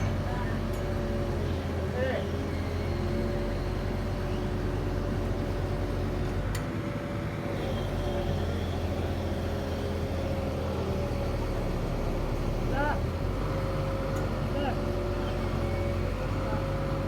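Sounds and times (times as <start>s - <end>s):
engine humming steadily: 0.0s - 17.0s.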